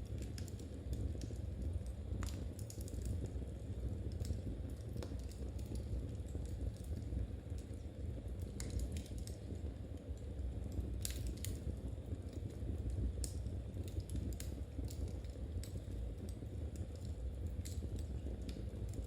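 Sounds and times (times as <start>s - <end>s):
fire crackles and pops: 0.0s - 19.0s
fire low rumble: 0.0s - 19.0s.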